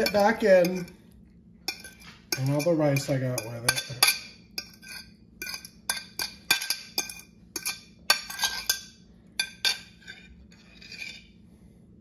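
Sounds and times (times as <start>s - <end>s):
utensil clinking and scraping on plate: 0.0s - 11.4s.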